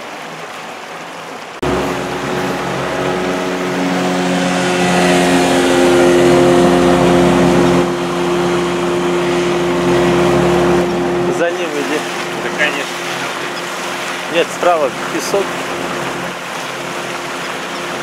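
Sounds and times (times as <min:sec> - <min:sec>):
rushing water: 0:00.0 - 0:18.0
wind: 0:00.0 - 0:18.0
outboard motor running: 0:01.6 - 0:18.0.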